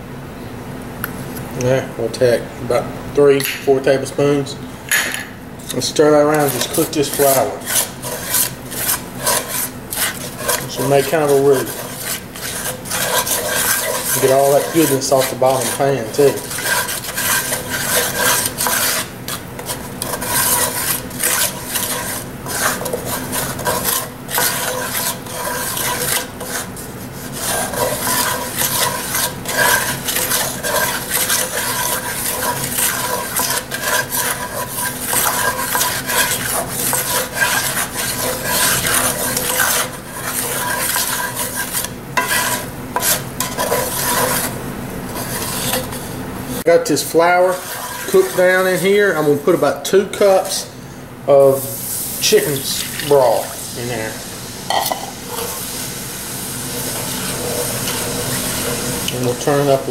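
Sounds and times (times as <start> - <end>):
wooden spatula scraping skillet: 5.6 - 50.7, 51.6 - 59.9.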